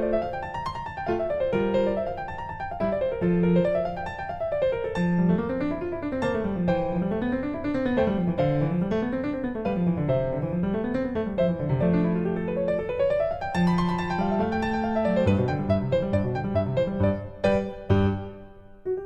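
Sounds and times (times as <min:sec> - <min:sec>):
piano music with arpeggios: 0:00.0 - 0:19.0.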